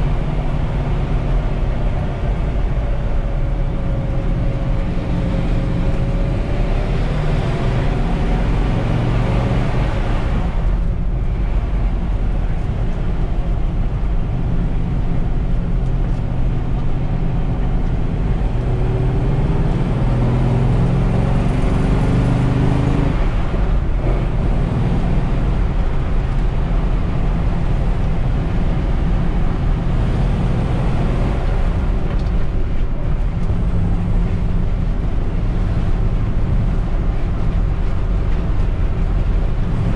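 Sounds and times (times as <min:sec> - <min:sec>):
road noise: 0:00.0 - 0:39.9
truck engine accelerating: 0:00.0 - 0:39.9.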